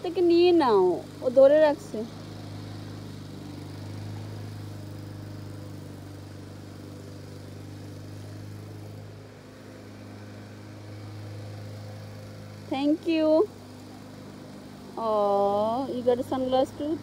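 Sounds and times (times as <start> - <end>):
machine droning: 0.0 - 17.0.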